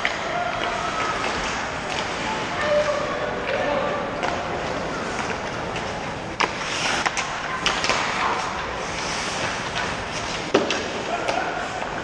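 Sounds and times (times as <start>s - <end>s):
skates scraping on ice: 0.0s - 3.0s, 4.2s - 12.0s
hockey sticks and puck clacking: 0.0s - 12.0s.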